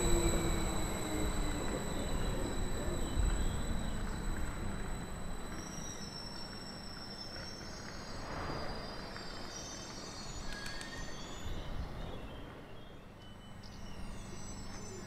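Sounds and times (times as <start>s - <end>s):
train rumbling: 0.0s - 12.3s.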